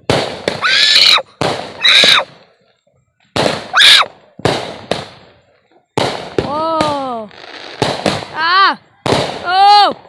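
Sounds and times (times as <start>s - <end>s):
fireworks bangs: 0.0s - 2.5s, 3.3s - 10.0s
fireworks hissing crackle: 0.0s - 8.6s.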